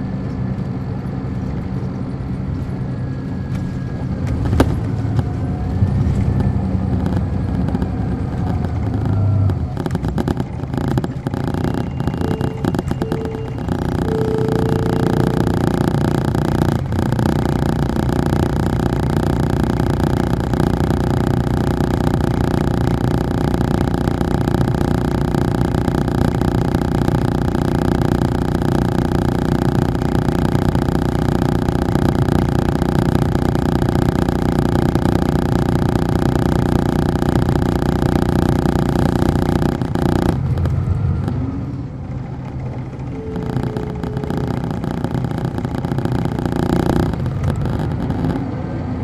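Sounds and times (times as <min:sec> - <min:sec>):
bus engine droning: 0:00.0 - 0:49.0.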